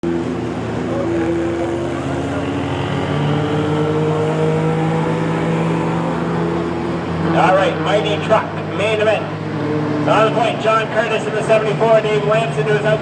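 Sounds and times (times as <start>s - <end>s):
race truck engines running: 0.0s - 13.0s.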